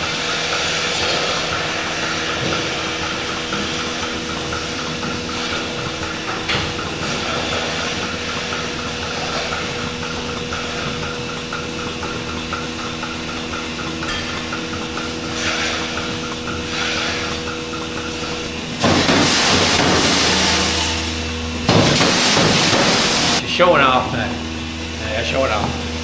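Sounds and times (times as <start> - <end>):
faint regular ticking: 0.0 - 21.7
milking machine hum and hiss: 0.0 - 26.0.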